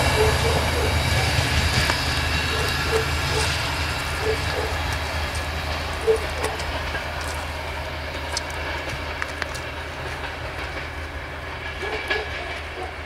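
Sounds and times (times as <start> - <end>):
locomotive rumble: 0.0 - 13.0
wheels clicking over rail joints: 0.0 - 13.0.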